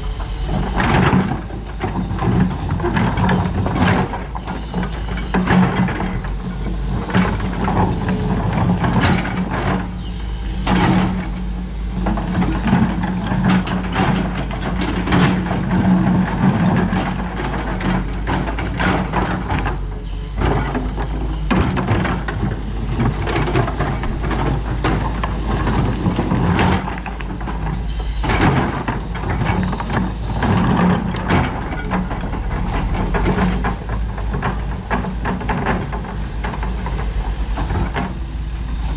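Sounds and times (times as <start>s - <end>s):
clanks and rattles: 0.0s - 38.9s
excavator diesel engine running: 0.0s - 38.9s.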